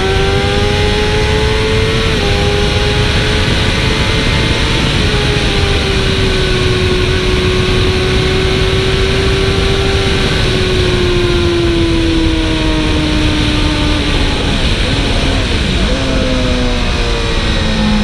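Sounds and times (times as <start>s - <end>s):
motorcycle engine running hard: 0.0s - 18.0s
wind rush: 0.0s - 18.0s.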